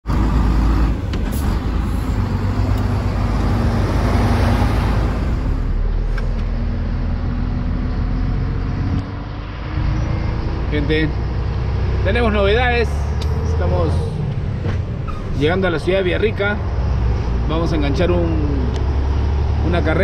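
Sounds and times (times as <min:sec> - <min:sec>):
road and tyre noise: 0:00.0 - 0:20.0
truck engine running: 0:00.0 - 0:20.0.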